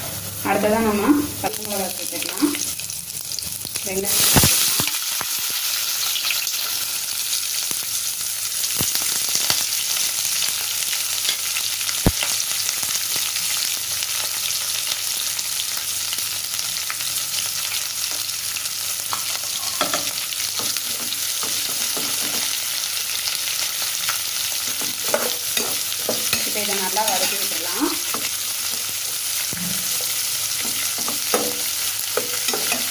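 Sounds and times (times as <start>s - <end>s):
onions sizzling in hot oil: 0.0s - 32.9s.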